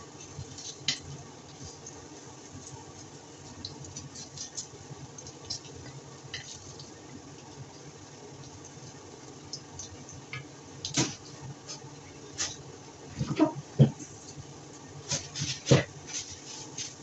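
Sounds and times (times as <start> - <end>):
omelette frying in oil: 0.0 - 17.0.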